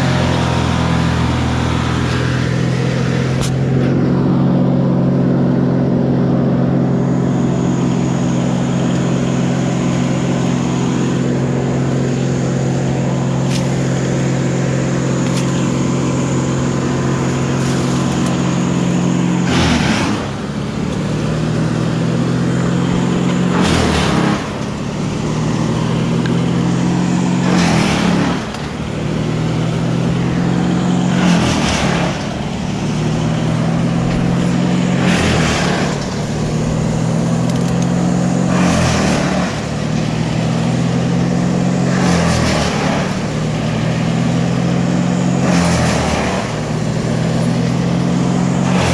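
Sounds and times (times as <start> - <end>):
large engine running: 0.0 - 48.9.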